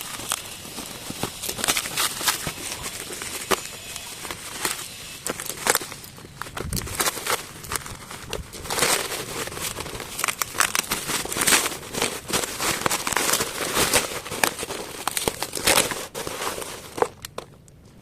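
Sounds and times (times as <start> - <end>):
parcel wrapping crumpled and torn: 0.0 - 18.0.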